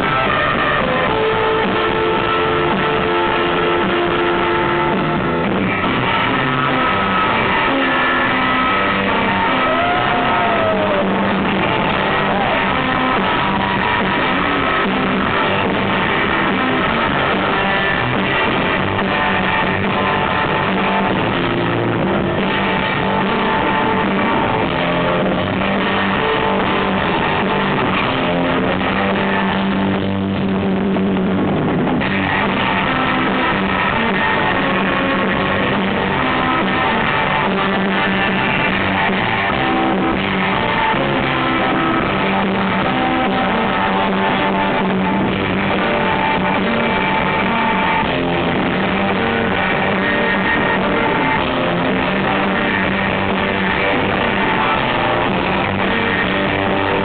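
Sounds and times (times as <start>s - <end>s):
electric guitar with rock band: 0.0s - 57.0s.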